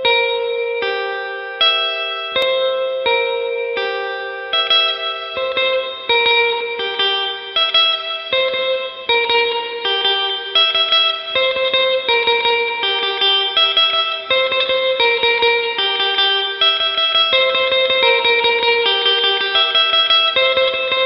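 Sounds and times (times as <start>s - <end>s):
picked guitar notes: 0.0s - 21.0s.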